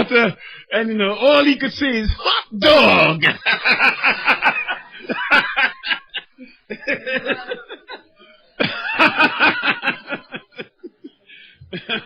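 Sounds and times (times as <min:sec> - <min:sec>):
people laughing: 0:00.0 - 0:00.4, 0:02.8 - 0:12.0.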